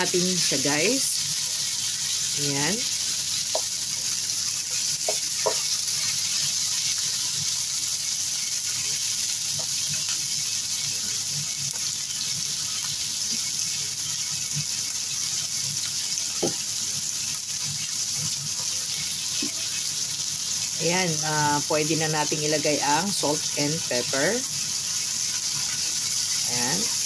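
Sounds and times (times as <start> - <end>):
chicken and onions sizzling in oil: 0.0 - 27.0.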